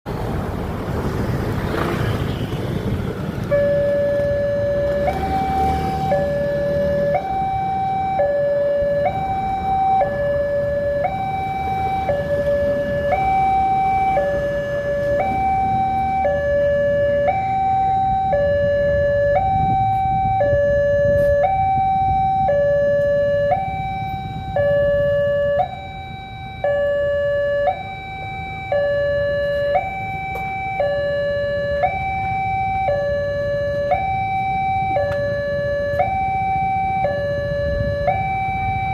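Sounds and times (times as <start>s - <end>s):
traffic rumble: 0.0s - 38.9s
two-tone level crossing alarm: 3.4s - 38.9s.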